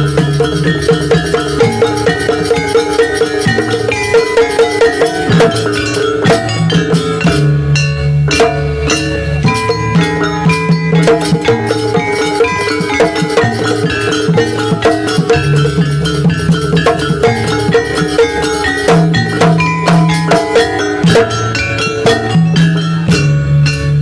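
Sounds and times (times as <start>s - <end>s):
drums: 0.0s - 24.0s
tuned metal percussion: 0.0s - 24.0s.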